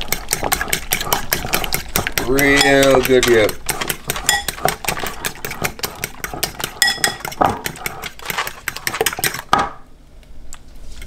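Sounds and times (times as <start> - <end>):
fork tapping against bowl: 0.1 - 9.4.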